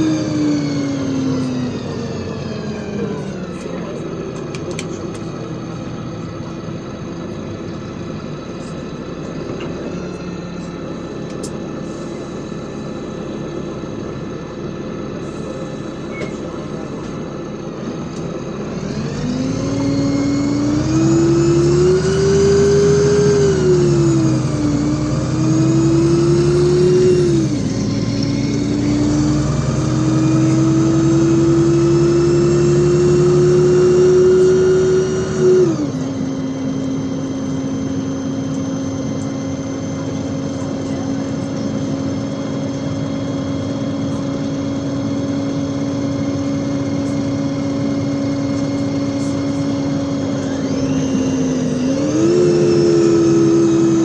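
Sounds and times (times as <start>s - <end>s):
bus engine pulling away: 0.0s - 54.0s.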